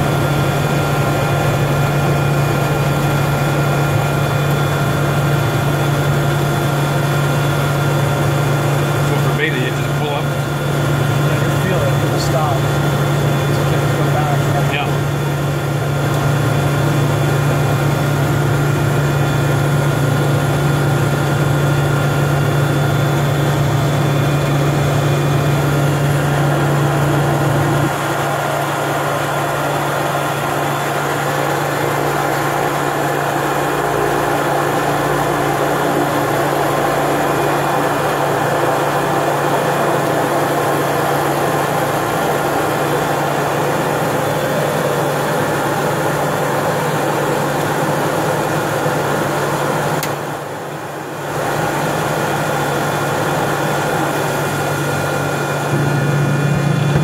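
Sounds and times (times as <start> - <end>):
turboprop engine running: 0.0 - 57.0.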